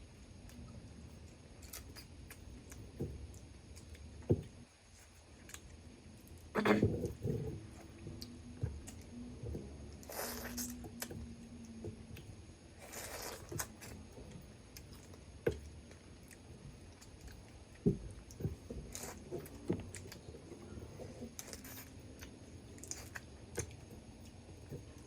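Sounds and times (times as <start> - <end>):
chewing and crunching: 0.4 - 25.0.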